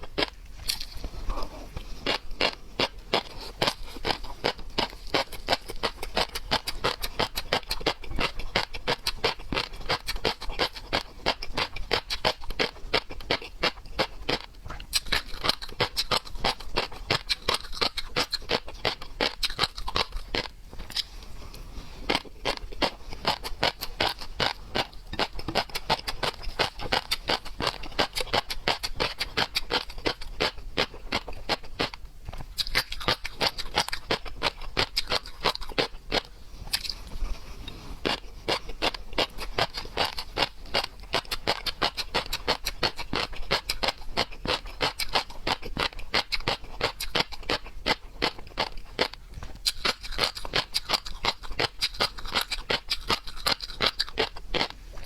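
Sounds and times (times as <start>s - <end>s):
wet chewing clicks and smacks: 0.0s - 1.2s, 1.8s - 21.1s, 22.1s - 55.0s.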